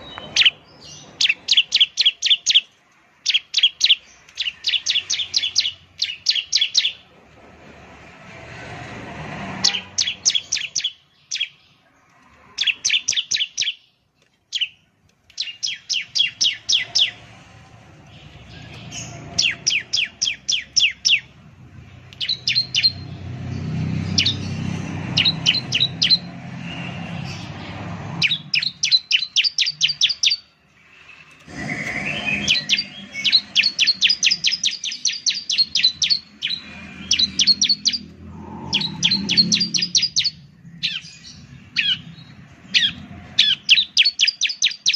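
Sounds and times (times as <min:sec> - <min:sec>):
bird singing rapid sharp chirps: 0:00.0 - 0:07.1, 0:09.6 - 0:11.8, 0:12.5 - 0:44.9.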